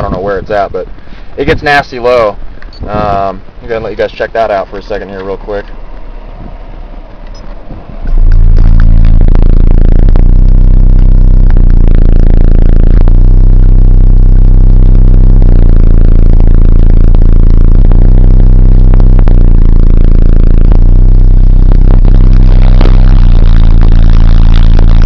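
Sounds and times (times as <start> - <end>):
distorted subwoofer bass drone: 0.0 - 25.0.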